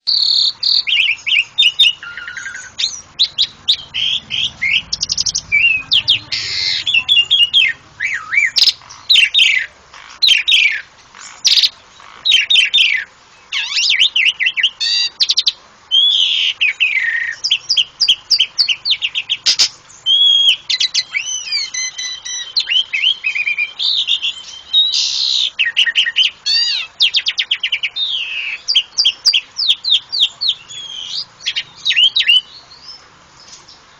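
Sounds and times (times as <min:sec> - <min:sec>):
starling singing: 0:00.0 - 0:33.9.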